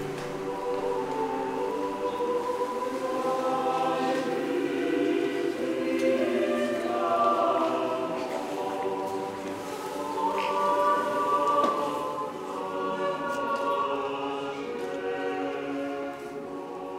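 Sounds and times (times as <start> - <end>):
choir singing held chords: 0.0 - 16.9.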